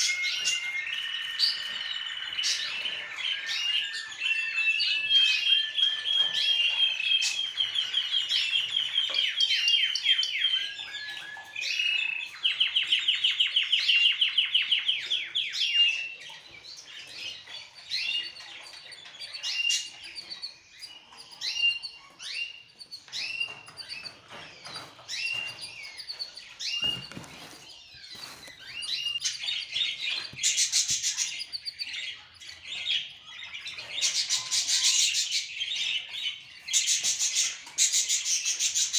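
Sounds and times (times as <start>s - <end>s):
pet birds chirping: 0.0s - 38.9s.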